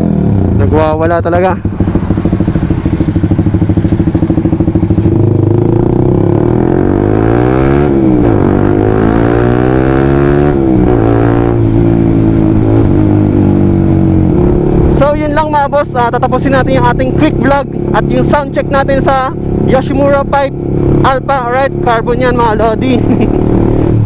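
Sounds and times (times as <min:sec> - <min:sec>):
loud motorcycle engine accelerating: 0:00.0 - 0:24.0.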